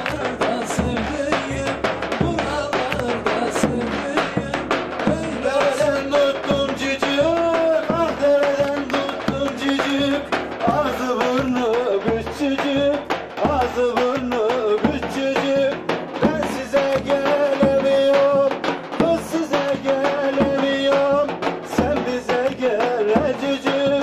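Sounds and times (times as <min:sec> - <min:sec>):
drum beating steadily: 0:00.0 - 0:24.0.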